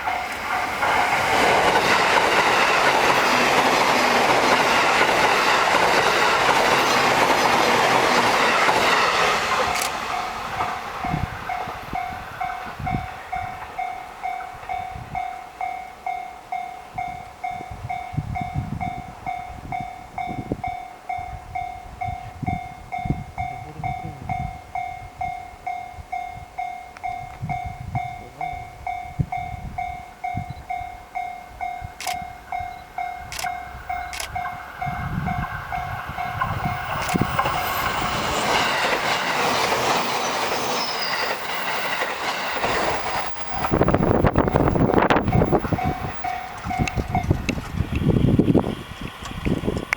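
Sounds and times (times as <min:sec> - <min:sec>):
low rumble of trains: 0:00.0 - 0:49.9
train running noise: 0:00.0 - 0:49.9.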